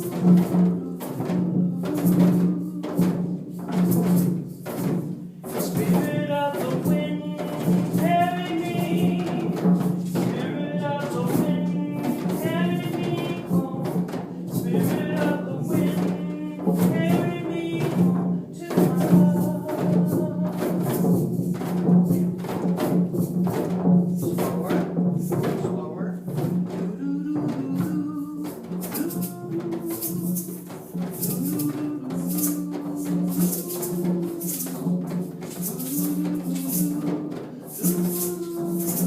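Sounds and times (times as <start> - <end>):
person singing a chant: 0.0 - 4.4, 5.5 - 22.6, 26.7 - 39.0
group hand-drumming: 0.0 - 39.0.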